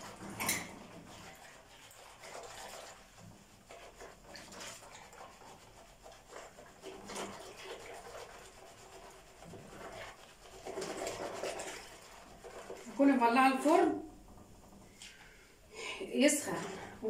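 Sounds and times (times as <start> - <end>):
spoon stirring in a bowl: 0.0 - 14.0.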